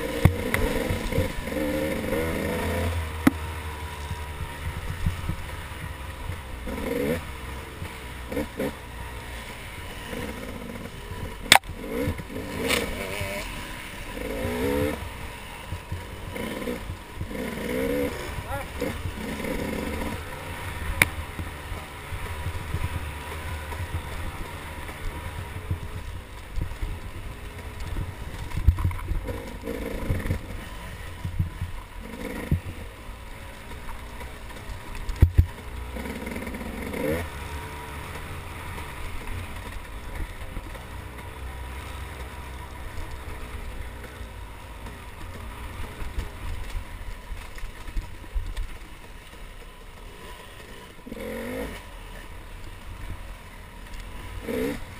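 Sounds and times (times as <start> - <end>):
dirt bike engine revving: 0.0 - 48.1, 48.8 - 54.9.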